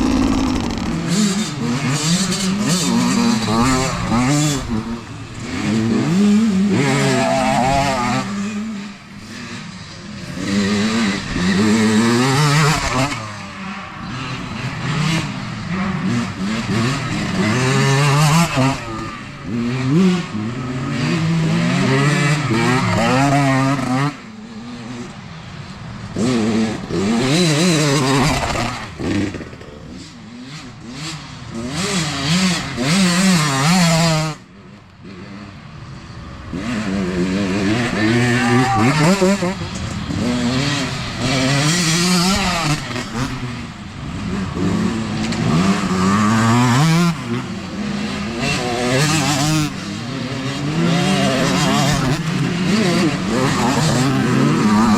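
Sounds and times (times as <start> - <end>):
dirt bikes revving past: 0.0 - 54.9.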